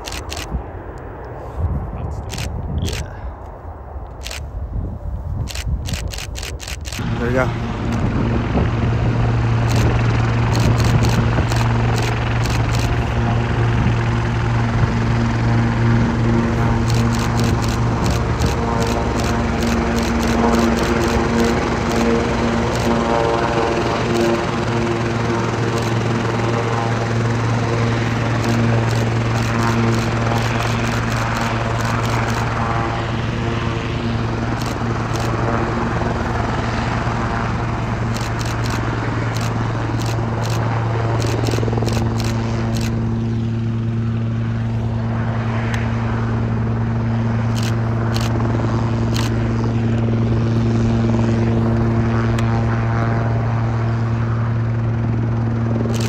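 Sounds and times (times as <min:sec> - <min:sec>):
helicopter engine tones: 0:00.0 - 0:56.0
helicopter rotor hum: 0:00.0 - 0:56.0.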